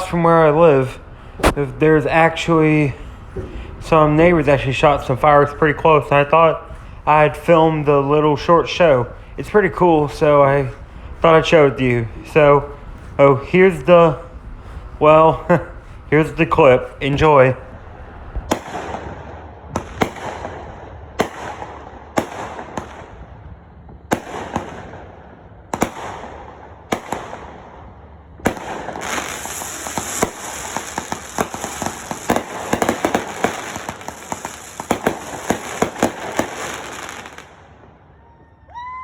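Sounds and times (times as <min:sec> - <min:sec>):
fireworks crackling barrage: 0:00.0 - 0:38.2
fireworks bangs: 0:00.0 - 0:38.6.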